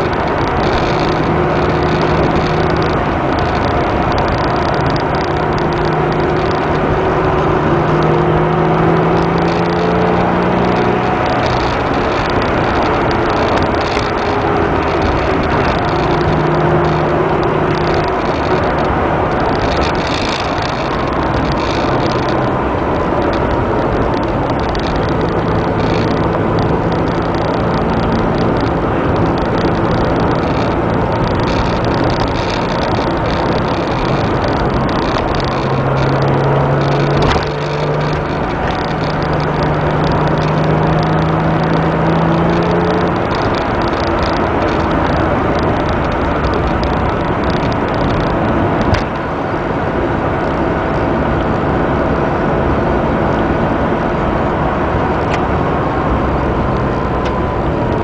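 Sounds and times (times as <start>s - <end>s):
car engine running: 0.0s - 58.0s
road and wind noise: 0.0s - 58.0s.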